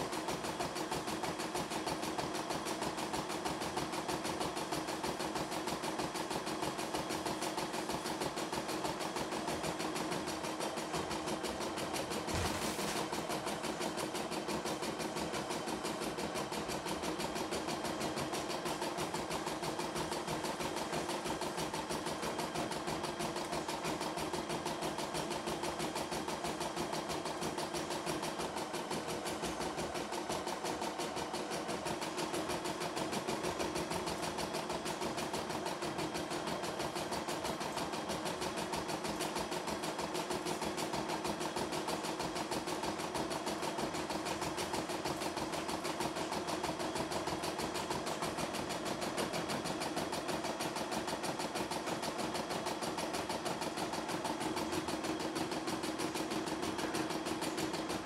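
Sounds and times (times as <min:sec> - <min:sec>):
embroidery machine stitching: 0:00.0 - 0:58.0.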